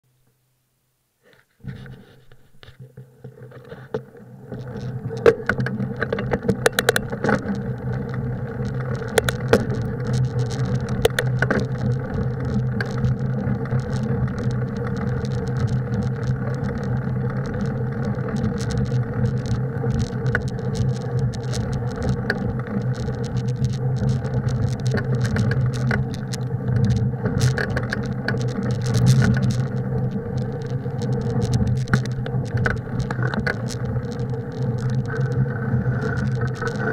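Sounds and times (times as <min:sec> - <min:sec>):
bicycle rolling on snow: 0:01.3 - 0:36.9
bike rattles and clicks: 0:01.7 - 0:36.9.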